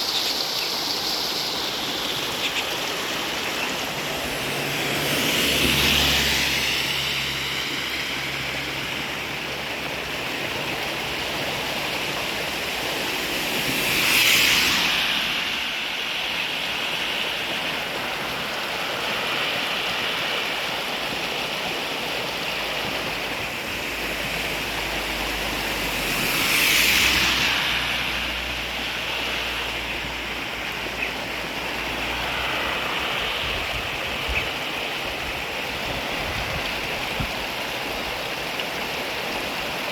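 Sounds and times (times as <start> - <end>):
rushing water or heavy rain: 0.0 - 39.9.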